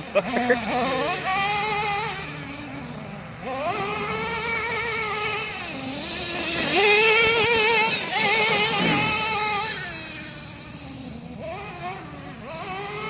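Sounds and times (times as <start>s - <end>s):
small nitro engine revving: 0.0s - 13.0s.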